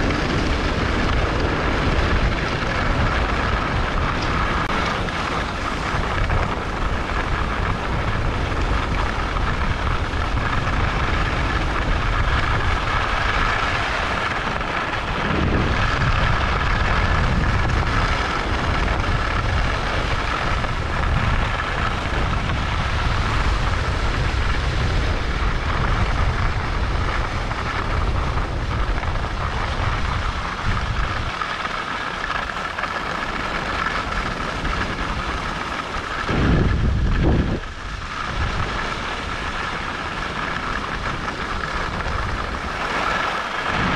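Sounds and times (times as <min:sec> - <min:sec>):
skis scraping on snow: 0:00.0 - 0:43.9
wind buffeting microphone: 0:00.0 - 0:43.9.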